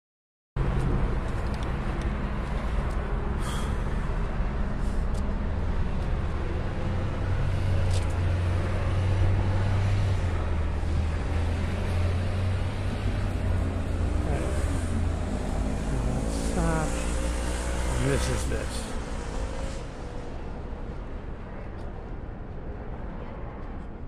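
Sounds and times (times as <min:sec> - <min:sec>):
road noise: 0:00.6 - 0:24.0
vehicle engine drone: 0:00.6 - 0:24.0.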